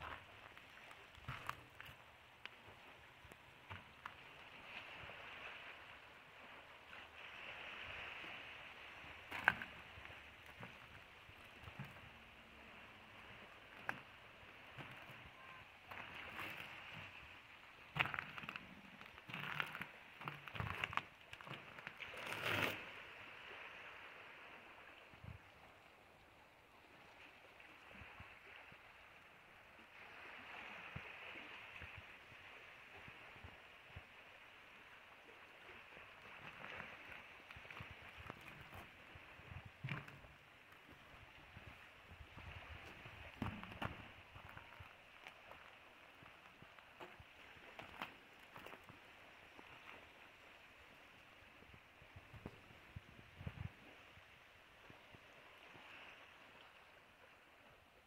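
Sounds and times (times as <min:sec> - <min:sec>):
small sea waves washing in: 0:00.0 - 0:58.0.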